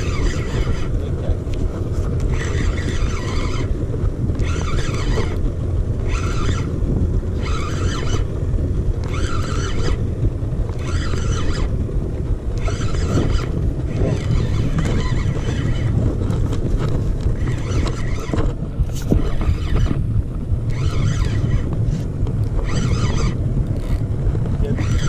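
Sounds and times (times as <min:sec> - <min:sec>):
boat motor drone: 0:00.0 - 0:25.0
fishing reel gears whirring: 0:00.0 - 0:25.0
wind on microphone: 0:00.0 - 0:25.0.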